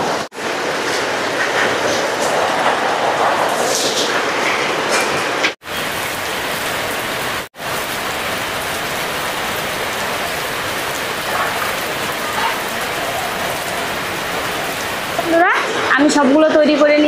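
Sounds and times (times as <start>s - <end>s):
heavy rain: 0.0s - 16.6s.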